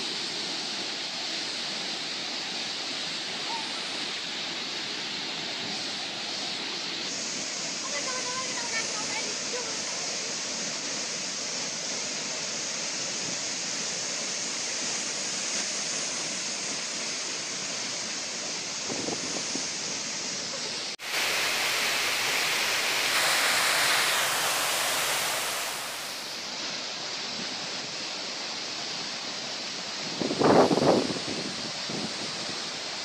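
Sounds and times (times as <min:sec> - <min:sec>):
waterfall roaring: 0:00.0 - 0:10.4, 0:14.6 - 0:33.0
stream running over rocks: 0:00.0 - 0:33.0.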